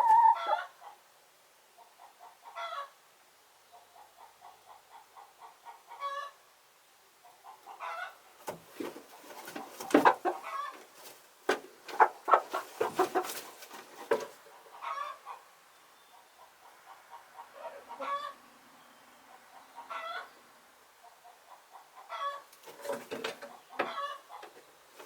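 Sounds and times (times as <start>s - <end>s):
chickens clucking: 0.0s - 1.0s, 1.8s - 3.0s, 3.7s - 6.4s, 7.2s - 25.0s.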